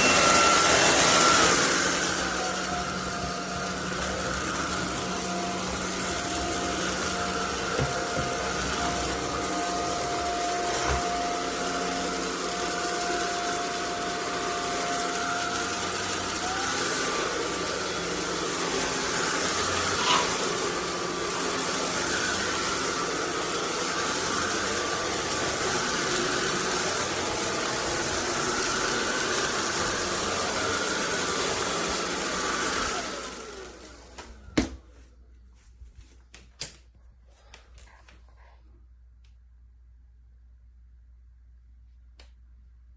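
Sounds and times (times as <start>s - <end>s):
stick vacuum running: 0.0s - 34.9s.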